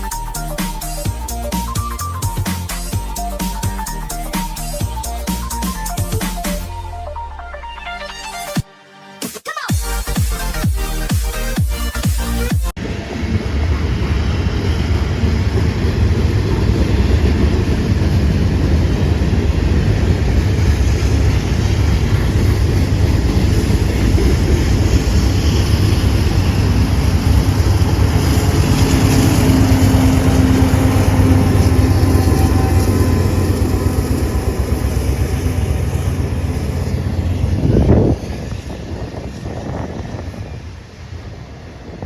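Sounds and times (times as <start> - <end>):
freight train rumbling past: 0.0 - 7.3, 12.8 - 42.0.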